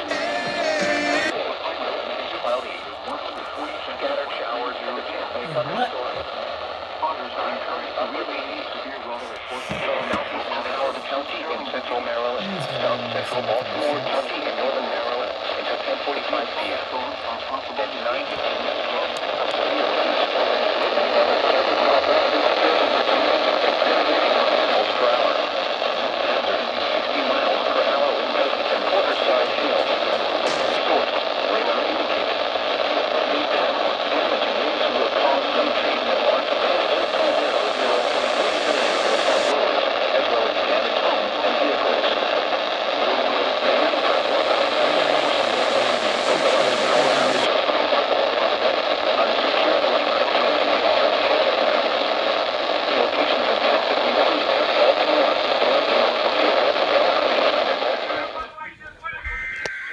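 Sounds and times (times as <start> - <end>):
radio static hiss: 0.0 - 59.9.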